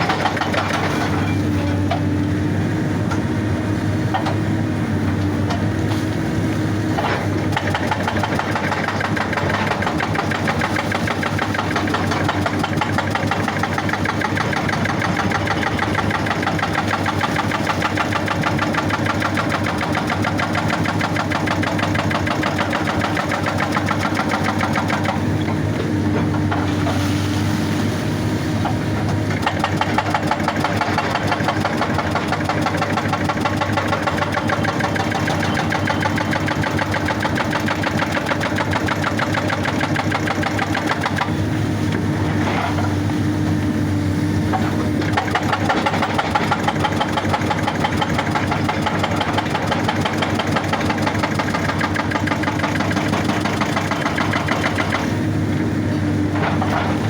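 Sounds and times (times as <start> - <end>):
hydraulic rock breaker hammering: 0.0 - 2.2, 6.8 - 27.0, 28.5 - 57.0
diesel engine running: 0.0 - 57.0.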